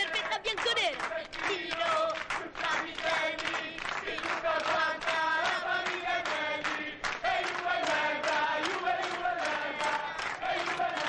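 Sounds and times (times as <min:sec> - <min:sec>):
crowd chanting in unison: 0:00.9 - 0:11.0.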